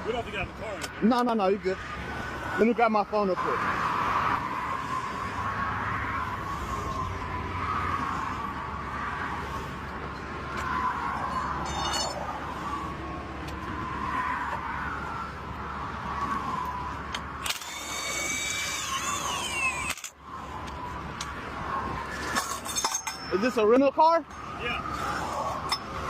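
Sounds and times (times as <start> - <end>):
freeway traffic passing: 0.0 - 26.0.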